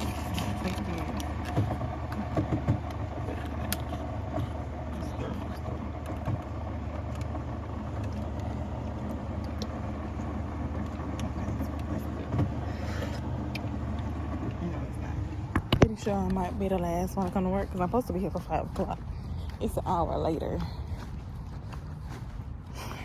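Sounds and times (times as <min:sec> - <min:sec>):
car engine and road hum: 0:00.0 - 0:23.0.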